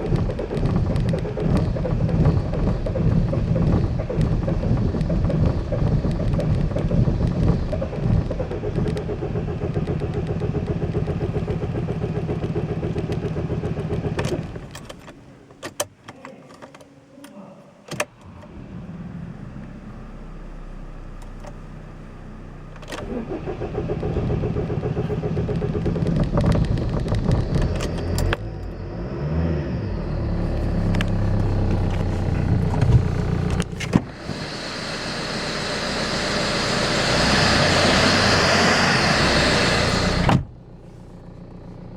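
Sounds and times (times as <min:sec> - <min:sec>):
diesel engine cranking: 0:00.0 - 0:16.1, 0:17.9 - 0:41.7.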